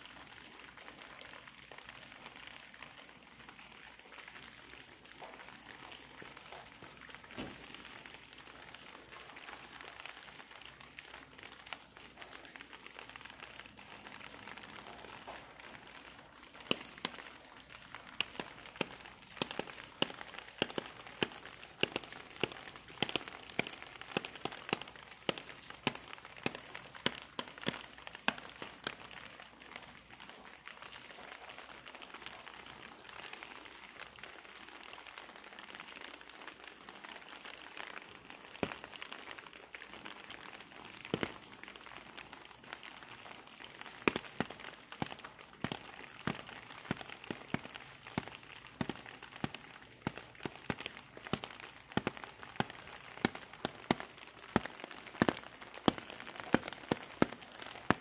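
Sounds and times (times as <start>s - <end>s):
rain hissing: 0.0s - 58.0s.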